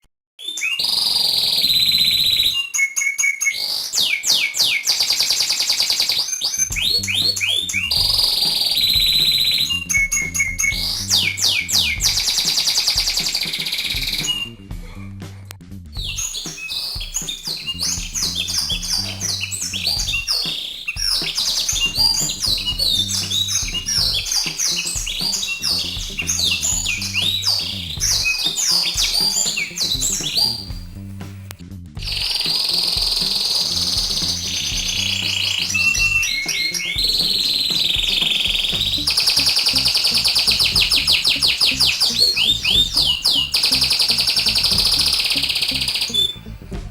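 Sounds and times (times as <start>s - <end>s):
songbird falling whistles: 0.4s - 14.5s, 16.0s - 30.8s, 32.1s - 46.4s
songbird trill: 0.5s - 14.6s, 16.0s - 30.9s, 32.1s - 46.5s
background music with bass: 6.7s - 46.9s.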